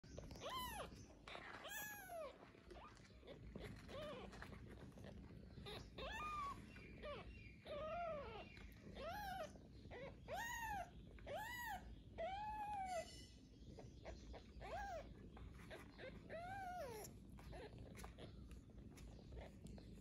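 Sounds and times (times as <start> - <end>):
kittens mewing: 0.2 - 13.1, 13.7 - 20.0.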